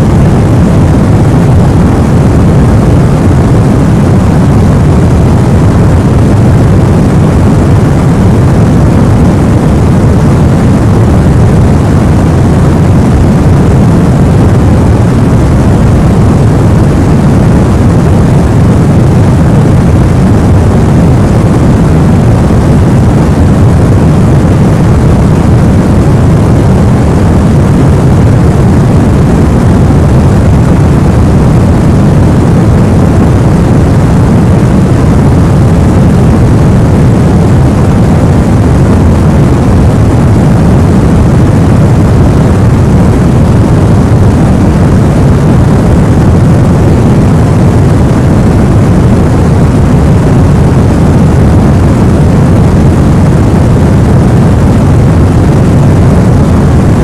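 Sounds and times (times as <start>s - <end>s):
deep rushing white noise: 0.0s - 57.0s.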